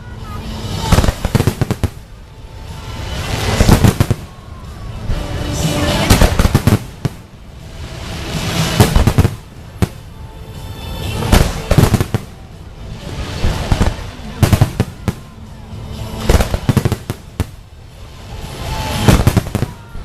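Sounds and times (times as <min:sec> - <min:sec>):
rumbling noise: 0:00.0 - 0:20.0
fireworks bangs and crackles: 0:00.2 - 0:20.0.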